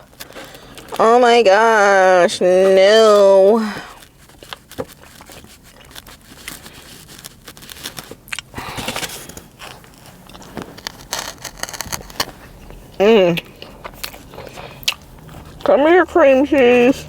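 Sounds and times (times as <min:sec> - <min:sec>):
food container crinkling: 0:00.0 - 0:01.9, 0:02.5 - 0:17.0
chewing food: 0:02.7 - 0:17.0.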